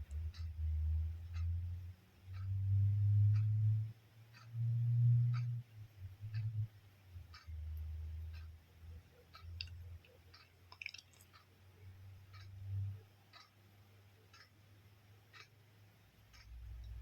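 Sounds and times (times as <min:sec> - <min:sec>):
faint steady ticking: 0:00.0 - 0:17.0.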